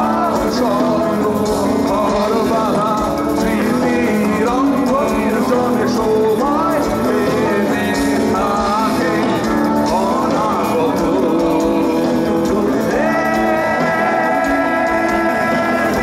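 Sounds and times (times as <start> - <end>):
distorted electric guitars: 0.0 - 16.0
drums: 0.0 - 16.0.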